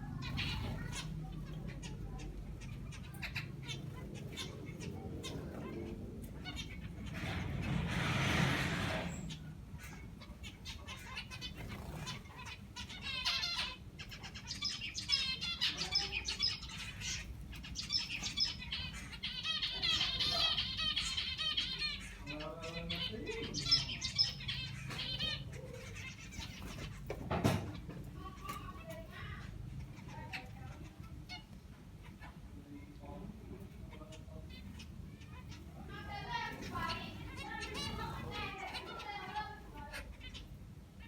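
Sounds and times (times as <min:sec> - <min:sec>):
finches chirping: 0:00.0 - 0:07.9, 0:08.9 - 0:41.0.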